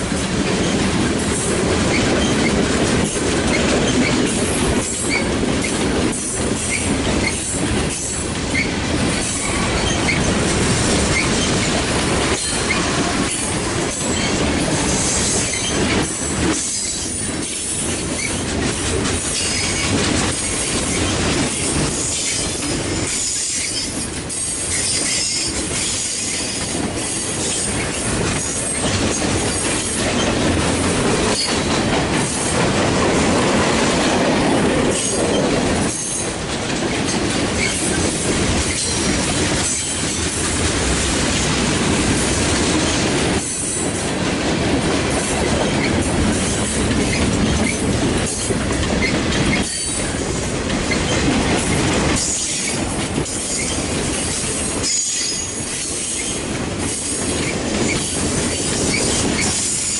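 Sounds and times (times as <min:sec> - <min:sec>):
clickety-clack over rail joints: 0:00.0 - 0:59.9
freight train wheels on rails: 0:00.0 - 0:59.9.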